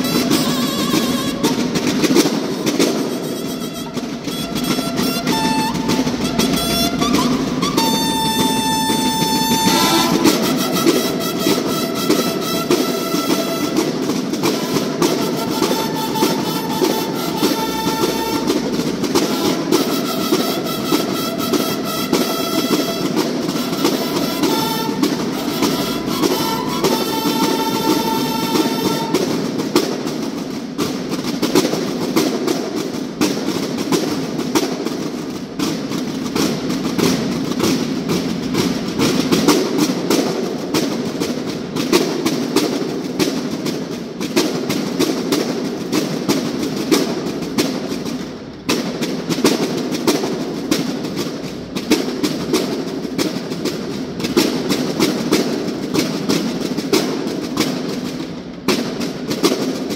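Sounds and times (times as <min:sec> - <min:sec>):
field drums marching cadence: 0:00.0 - 0:59.9.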